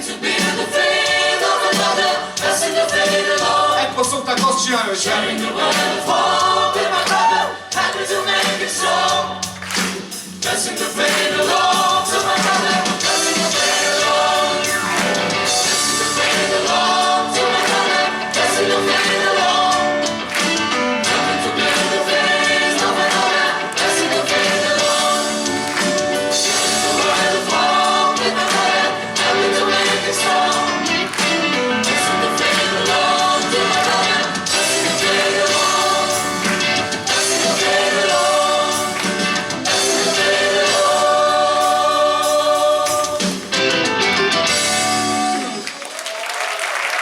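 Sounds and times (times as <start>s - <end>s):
steady percussion beat: 0.0s - 45.4s
choir singing gospel: 0.0s - 45.8s
instrumental accompaniment: 7.7s - 45.6s.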